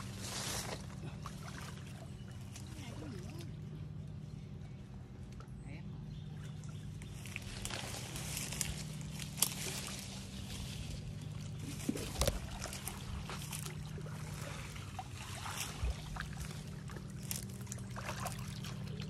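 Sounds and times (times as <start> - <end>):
water splashing from wading: 0.0 - 3.6, 6.4 - 19.0
steady low hum: 0.0 - 19.0.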